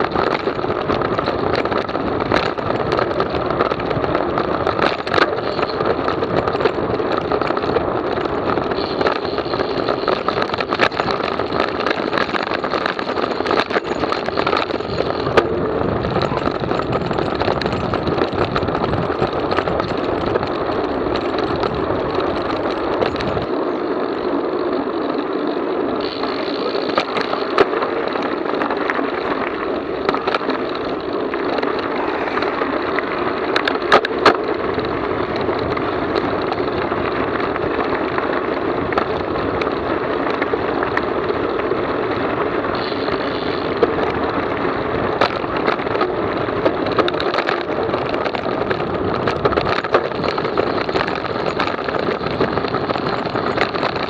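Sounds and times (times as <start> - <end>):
bicycle tyre noise: 0.0 - 54.0
bike rattling over bumps: 0.0 - 54.0
wind rush: 0.0 - 54.0.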